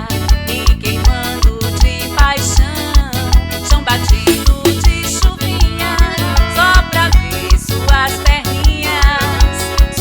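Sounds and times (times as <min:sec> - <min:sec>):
fast bass drum beat: 0:00.0 - 0:10.0.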